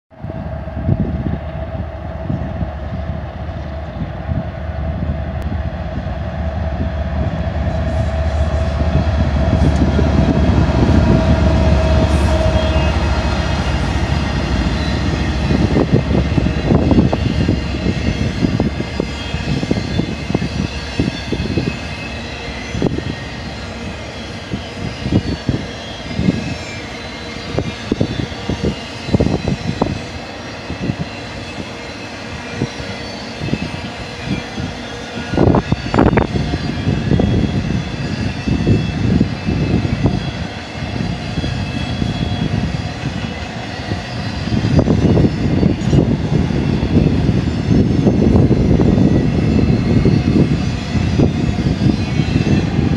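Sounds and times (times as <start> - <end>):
diesel locomotives passing: 0.1 - 52.9.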